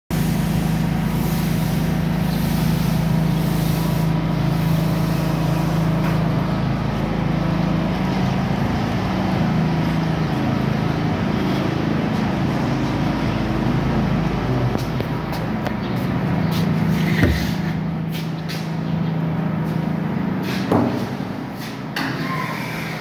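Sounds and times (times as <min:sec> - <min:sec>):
low mechanical drone: 0:00.1 - 0:23.0.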